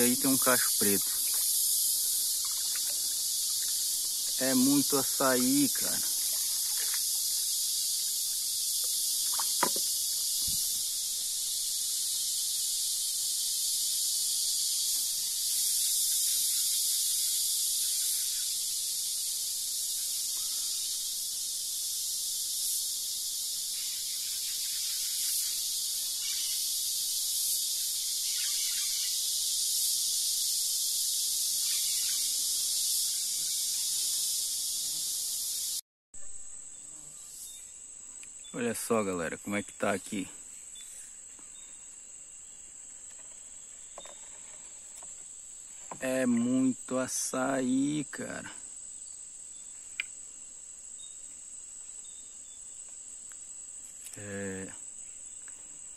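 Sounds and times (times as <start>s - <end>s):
insect chorus drone: 0.0s - 55.9s.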